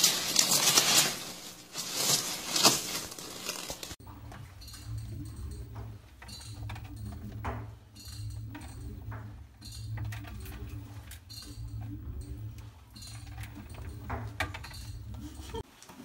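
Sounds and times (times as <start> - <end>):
claws and ball scraping metal drum: 0.0 - 15.6
steady low hum: 0.0 - 15.6.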